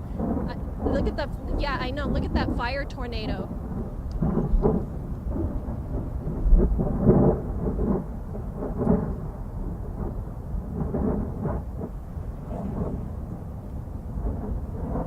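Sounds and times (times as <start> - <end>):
wind roaring in gusts: 0.0 - 15.0.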